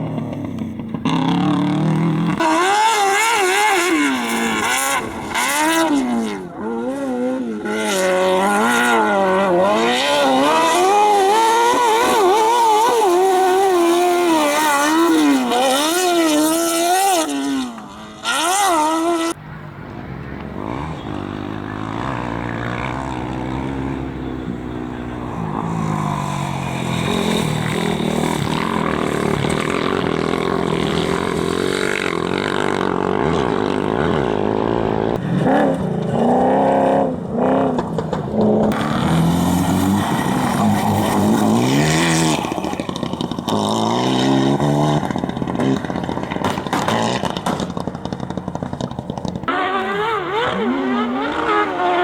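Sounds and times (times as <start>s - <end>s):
high-revving racing engine: 0.0s - 52.0s.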